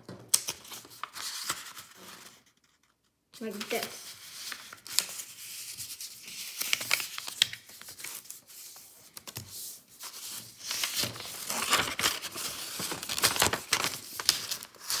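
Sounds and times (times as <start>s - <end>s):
paper being folded and creased: 0.3s - 15.0s.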